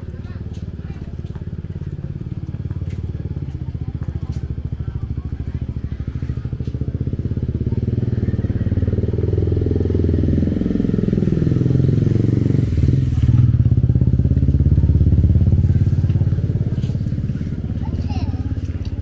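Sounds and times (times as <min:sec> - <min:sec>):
motor vehicle engine passing: 0:00.0 - 0:19.0.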